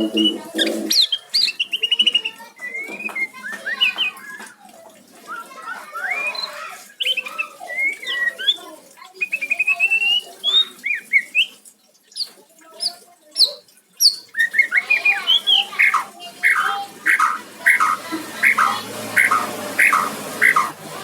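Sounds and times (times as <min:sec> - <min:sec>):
bird singing varied song: 0:00.0 - 0:04.4, 0:06.0 - 0:21.0.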